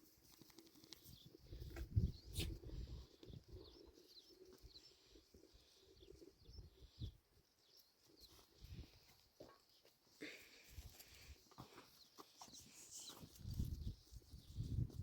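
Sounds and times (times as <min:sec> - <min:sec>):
birds chirping: 0:00.7 - 0:14.8.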